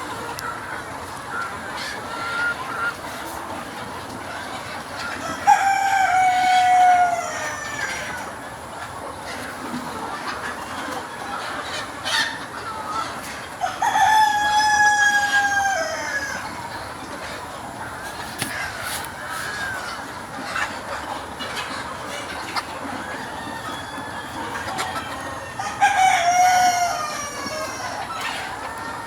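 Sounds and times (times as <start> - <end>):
hens clucking: 0.0 - 29.0.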